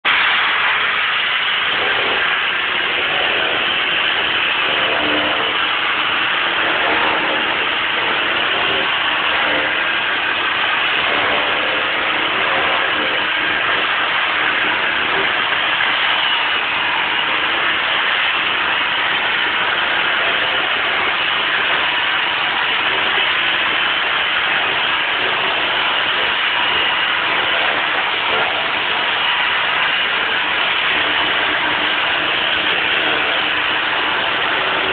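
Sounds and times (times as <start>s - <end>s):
floor sanding machine humming: 0.1s - 34.9s.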